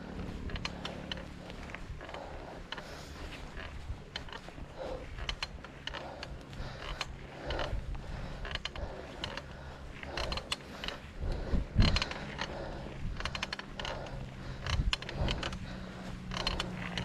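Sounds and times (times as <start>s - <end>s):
bicycle drivetrain clicking: 0.0s - 17.0s
low rumble: 0.0s - 17.0s.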